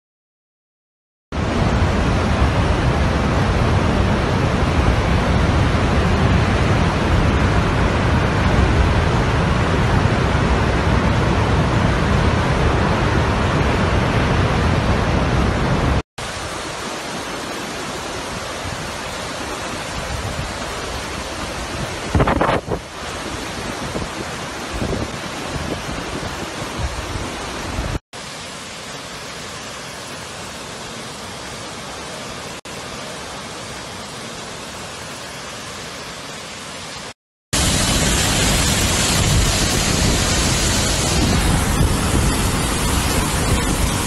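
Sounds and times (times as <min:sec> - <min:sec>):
floodwater rushing roar: 0:01.4 - 0:44.0.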